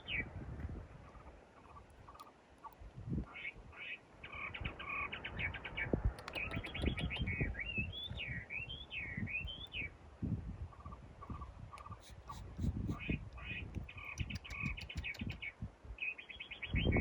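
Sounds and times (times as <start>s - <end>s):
small bird singing: 1.0s - 10.0s, 10.7s - 17.0s.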